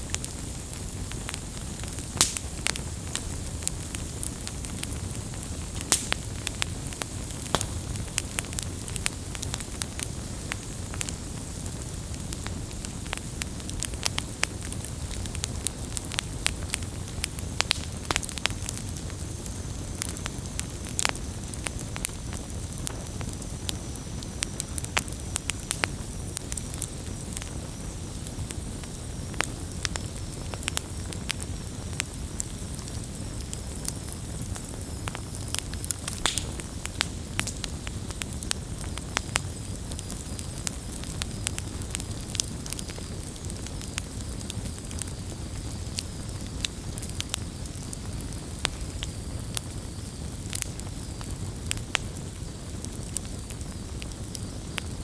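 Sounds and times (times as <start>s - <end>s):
campfire crackling and popping: 0.0s - 55.0s
rumble and hiss of flames: 0.0s - 55.0s.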